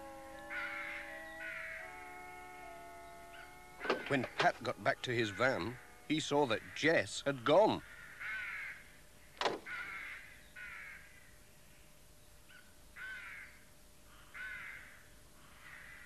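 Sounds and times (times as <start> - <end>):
crows cawing: 0.0 - 11.4, 13.0 - 16.0.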